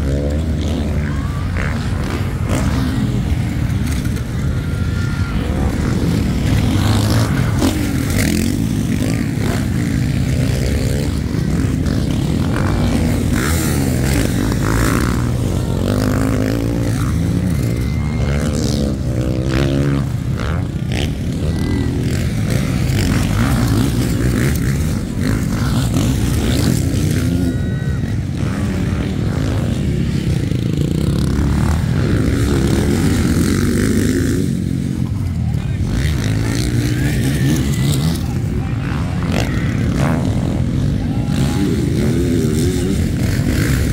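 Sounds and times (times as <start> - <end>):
constant low rumble: 0.0 - 43.9
dirt bike engines revving: 0.0 - 43.9.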